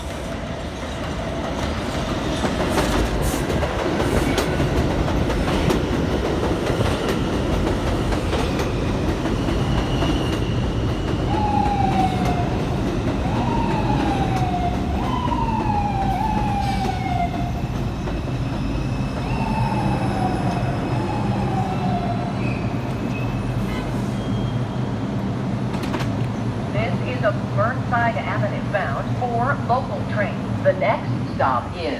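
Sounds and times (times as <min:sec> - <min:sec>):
subway train rumbling on track: 0:00.0 - 0:31.9.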